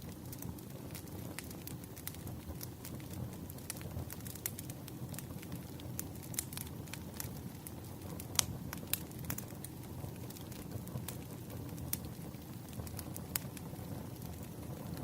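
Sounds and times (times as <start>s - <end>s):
fire low steady rumble: 0.0s - 15.0s
wood fire crackling: 0.0s - 15.0s.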